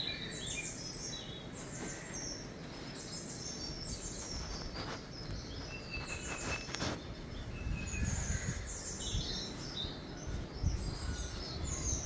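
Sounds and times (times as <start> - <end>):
birds chirping and whistling: 0.0 - 12.0
steady background hiss: 0.0 - 12.0.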